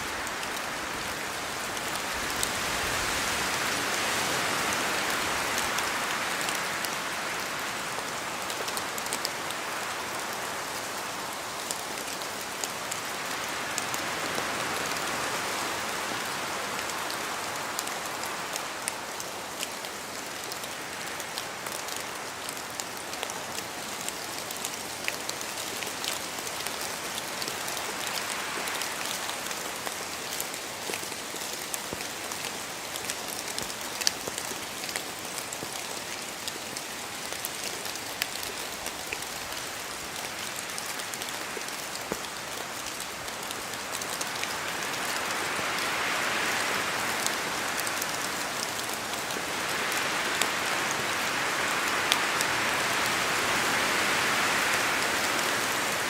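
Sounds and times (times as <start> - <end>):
steady rain in forest: 0.0 - 56.0
wind through trees: 0.0 - 56.0.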